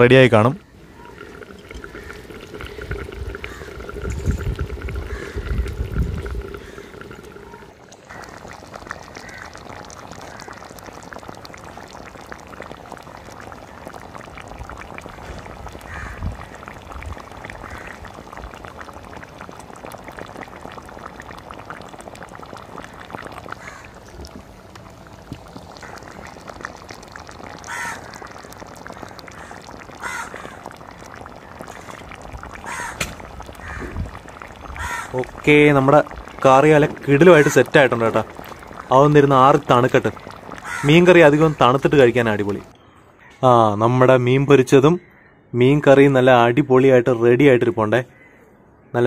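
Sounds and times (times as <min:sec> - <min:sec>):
curry bubbling in a pot: 0:00.0 - 0:42.8.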